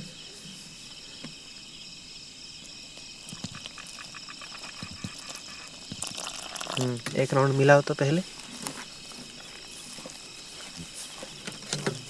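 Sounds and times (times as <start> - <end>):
night insects calling: 0.0 - 12.0.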